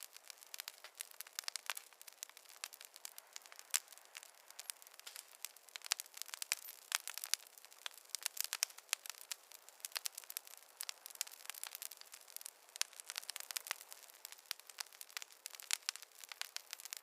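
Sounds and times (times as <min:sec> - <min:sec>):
faint hiss: 0:00.0 - 0:17.0
fire crackling: 0:00.0 - 0:17.0.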